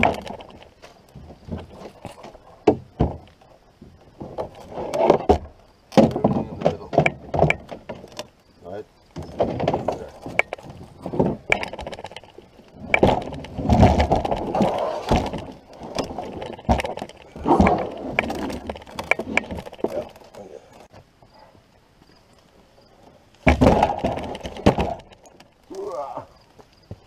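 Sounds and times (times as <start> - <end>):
firewood logs thudding on wood: 0.0 - 8.4, 9.1 - 21.1, 23.4 - 26.0.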